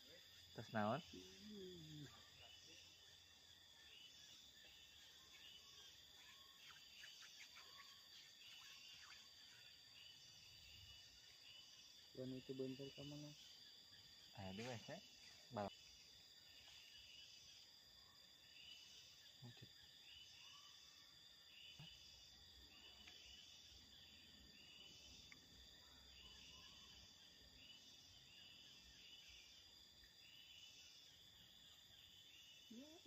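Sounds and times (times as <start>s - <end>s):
insects buzzing: 0.0s - 33.0s
short high insect chirp: 0.0s - 33.0s.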